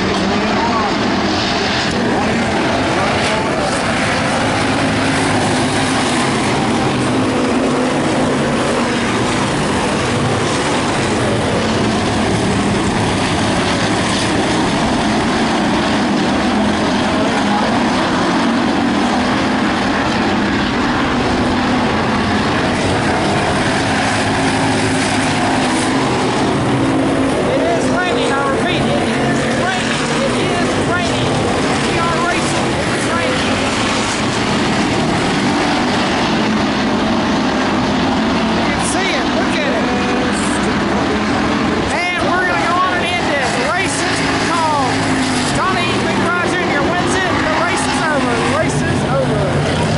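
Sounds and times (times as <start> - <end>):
race car engines droning: 0.0 - 49.9.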